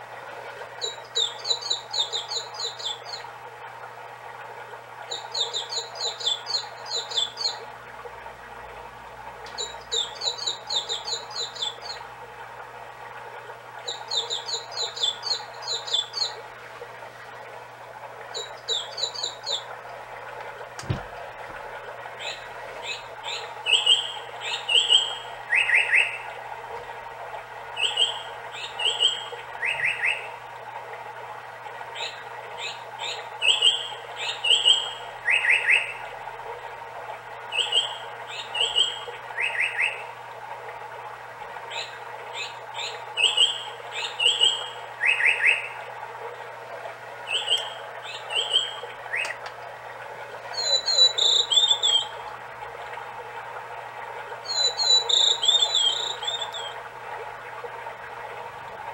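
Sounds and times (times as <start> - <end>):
recorded babbling stream: 0.0 - 58.9.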